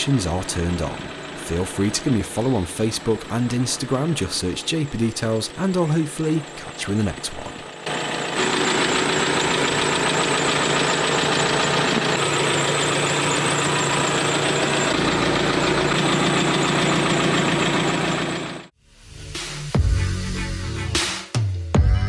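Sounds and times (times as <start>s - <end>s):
engine running: 0.0s - 18.7s.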